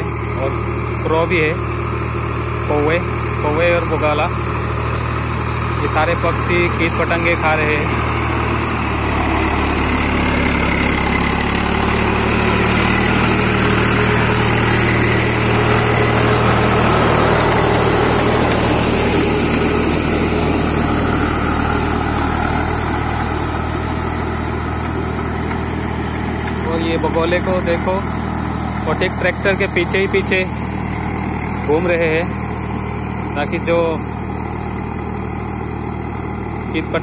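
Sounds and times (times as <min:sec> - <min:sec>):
tractor engine under load: 0:00.0 - 0:37.0.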